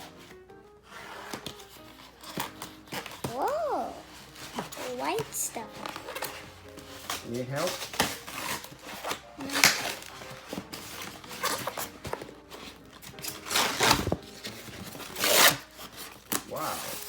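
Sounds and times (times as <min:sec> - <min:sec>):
packing material rustling: 0:00.0 - 0:17.0.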